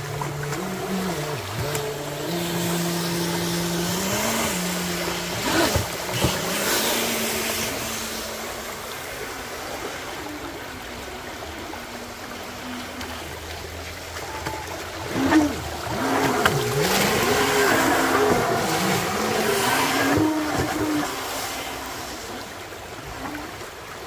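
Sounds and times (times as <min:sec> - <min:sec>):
toy boat motor whine: 0:00.0 - 0:23.8
water rushing and splashing: 0:00.0 - 0:24.0.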